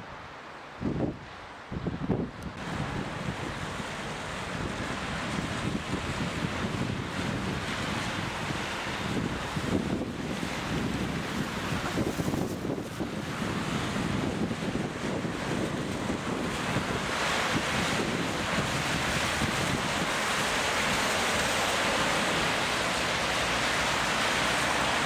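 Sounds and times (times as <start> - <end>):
car tyres hissing on wet street: 0.0 - 25.0
wind buffeting microphone: 0.8 - 25.0.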